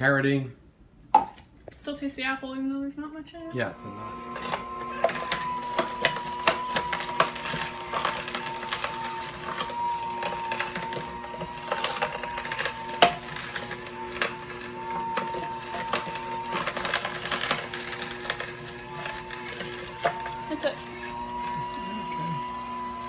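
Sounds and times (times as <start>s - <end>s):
juicer motor whine: 3.4s - 23.0s.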